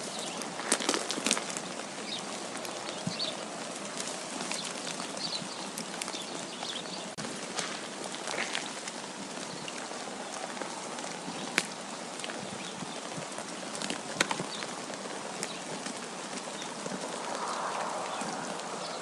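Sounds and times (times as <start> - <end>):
wind and falling snow hiss: 0.0 - 19.0.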